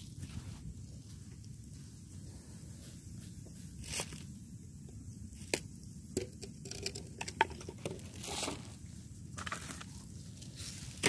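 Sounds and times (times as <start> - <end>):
sticks crackling in fire: 0.0 - 11.0.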